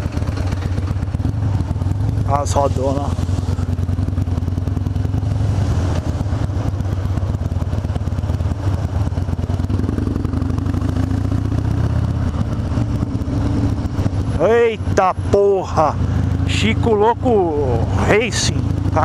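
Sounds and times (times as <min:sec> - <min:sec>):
motorcycle engine pulsing: 0:00.0 - 0:19.0.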